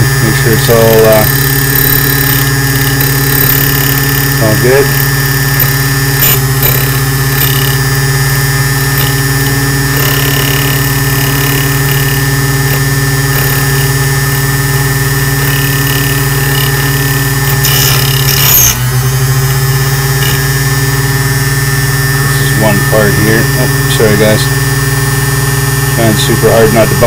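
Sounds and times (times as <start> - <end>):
cutter wheel grinding key: 0.0 - 22.2
harsh scraping squeal: 0.0 - 24.5
electric motor humming: 0.0 - 27.0.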